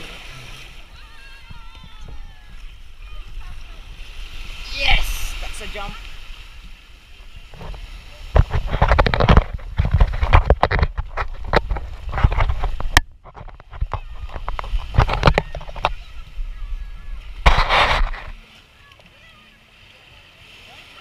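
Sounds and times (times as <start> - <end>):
small waves washing on shore: 0.0 - 21.0
wind buffeting microphone: 0.9 - 18.4.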